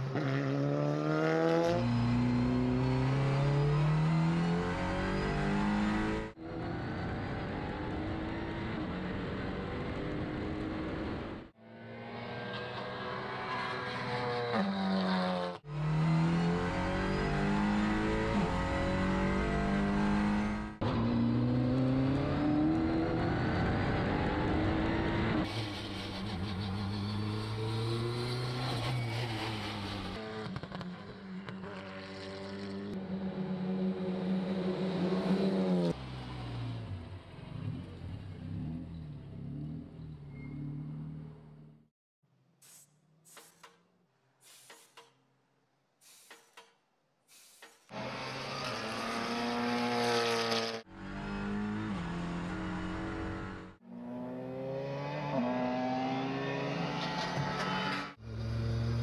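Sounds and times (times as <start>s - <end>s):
race car engine at full throttle: 0.0s - 39.4s, 47.9s - 59.0s.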